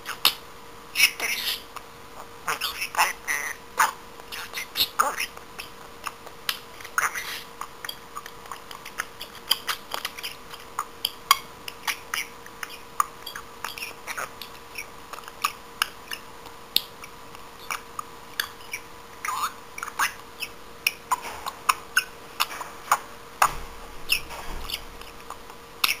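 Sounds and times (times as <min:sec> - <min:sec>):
budgerigar chattering: 0:01.0 - 0:06.2, 0:06.8 - 0:16.3, 0:17.6 - 0:21.2, 0:22.0 - 0:26.0.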